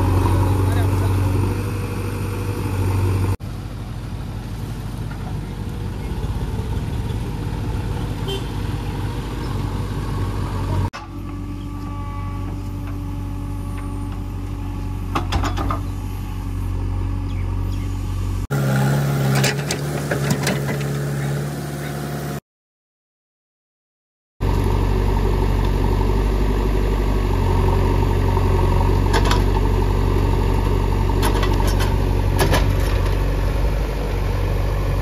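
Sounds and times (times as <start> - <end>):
diesel engine running: 0.0 - 22.4, 24.4 - 35.0.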